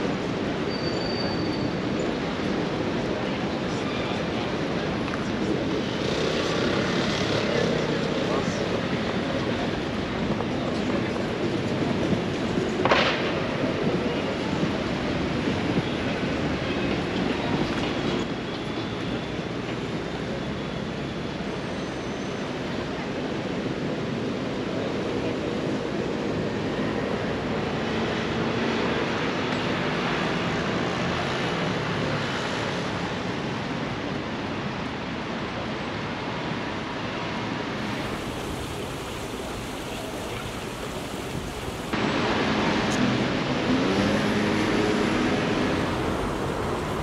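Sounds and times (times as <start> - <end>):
distant traffic: 0.0 - 34.6, 35.3 - 47.0
faint voices of passers-by: 0.0 - 47.0.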